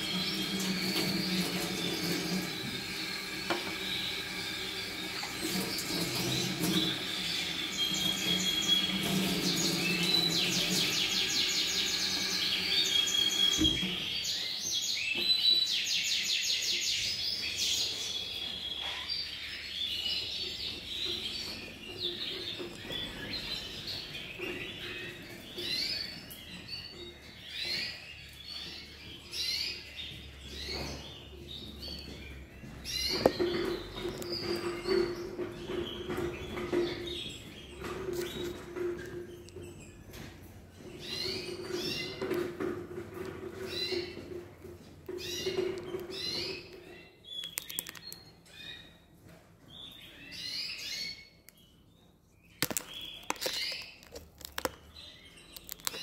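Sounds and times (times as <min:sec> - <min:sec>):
canaries chirping and singing: 0:00.0 - 0:56.0.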